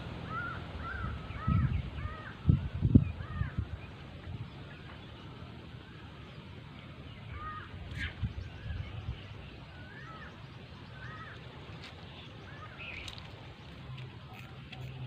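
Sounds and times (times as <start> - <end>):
birds whistling calls: 0.2 - 13.8.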